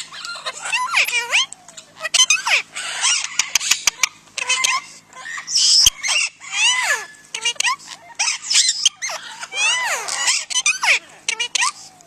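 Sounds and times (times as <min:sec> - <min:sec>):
parrot squawk: 0:00.0 - 0:11.9.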